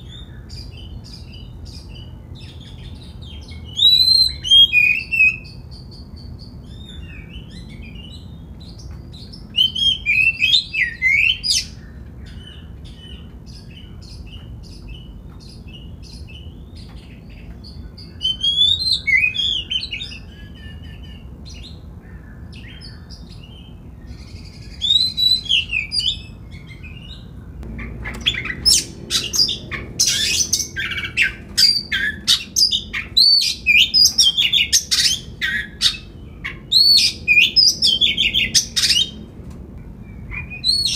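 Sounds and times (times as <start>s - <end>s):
magpie-robin singing: 0.0s - 39.2s, 40.0s - 40.9s.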